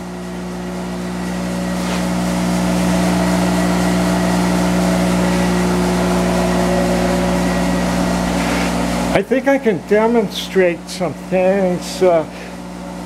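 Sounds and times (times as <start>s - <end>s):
lathe running: 0.0s - 13.0s.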